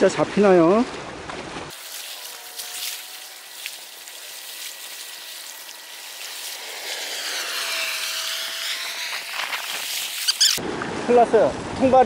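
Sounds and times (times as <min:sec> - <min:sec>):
water washing over rocks: 0:00.4 - 0:11.3.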